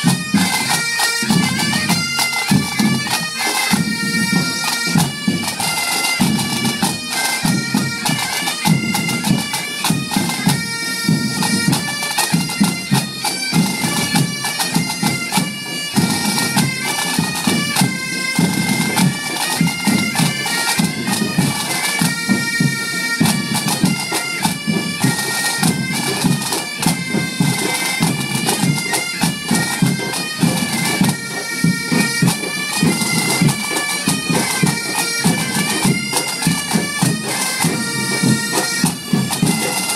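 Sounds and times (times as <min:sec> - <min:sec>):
bagpipes playing a melody: 0:00.0 - 0:39.9.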